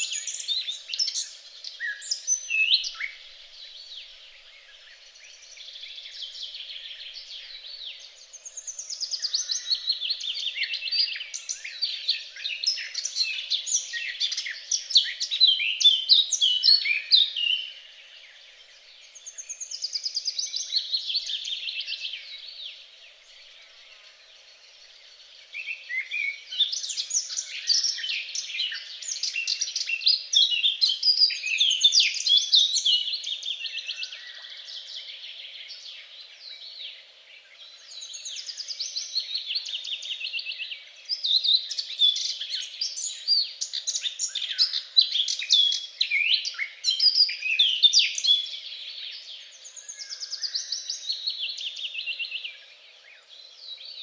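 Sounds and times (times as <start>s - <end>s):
songbird singing trills: 0.0s - 54.0s.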